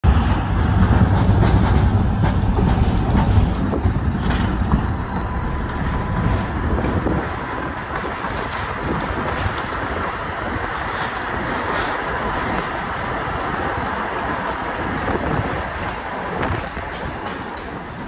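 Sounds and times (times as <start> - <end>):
tram wheels rumbling on rails: 0.0 - 18.0.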